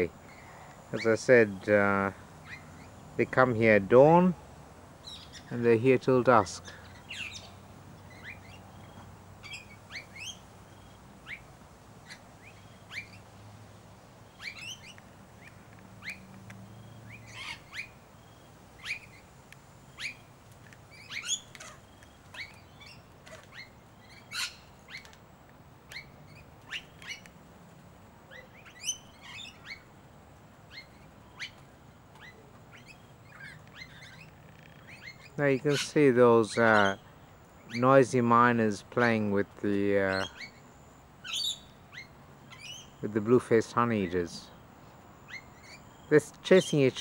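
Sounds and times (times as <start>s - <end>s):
birds chirping and squawking: 0.0s - 4.2s, 4.9s - 13.4s, 14.2s - 25.2s, 25.8s - 27.4s, 28.2s - 30.0s, 30.6s - 47.0s.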